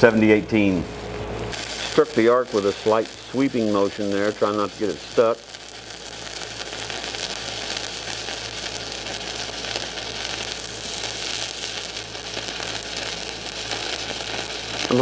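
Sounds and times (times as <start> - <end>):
welding arc sizzling crackle: 0.0 - 15.0.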